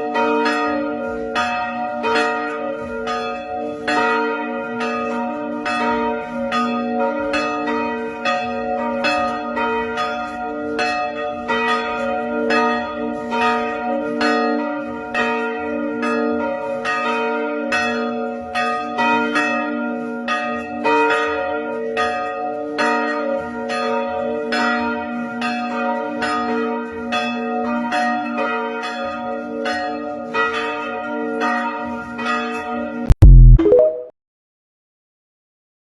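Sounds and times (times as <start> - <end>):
church bells pealing: 0.0 - 33.0.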